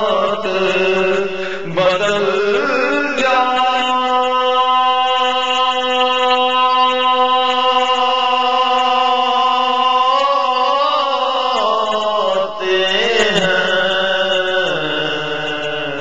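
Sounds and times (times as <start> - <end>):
man singing: 0.0 - 16.0.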